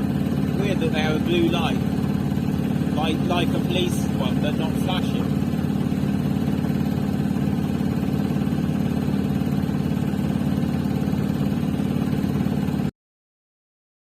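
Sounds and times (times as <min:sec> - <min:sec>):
boat engine running: 0:00.0 - 0:12.9.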